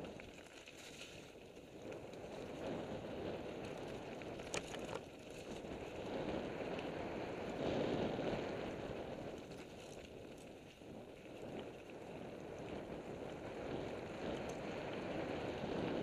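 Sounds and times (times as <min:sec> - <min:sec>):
tyre noise on dirt trail: 0:00.0 - 0:16.0
wind on the microphone: 0:00.0 - 0:16.0.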